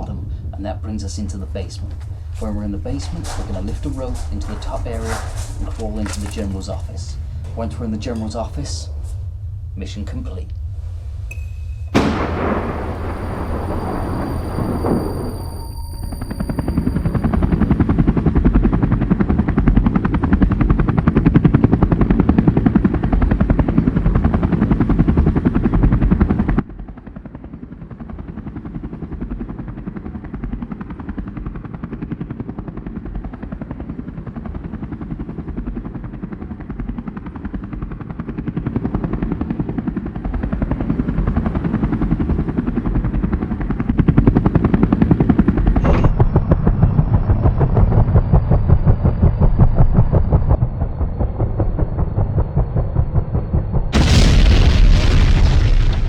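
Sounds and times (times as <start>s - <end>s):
helicopter rotor chopping: 0.0s - 10.8s, 12.0s - 56.0s.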